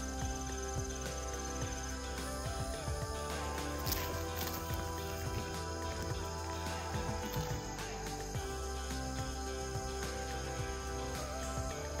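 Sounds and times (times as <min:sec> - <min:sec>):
music with held tones: 0:00.0 - 0:12.0.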